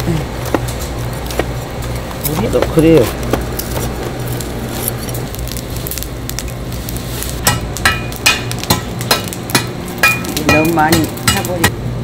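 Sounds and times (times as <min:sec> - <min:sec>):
charcoal hissing: 0:00.0 - 0:11.7
shovel clinking on charcoal: 0:00.5 - 0:11.7.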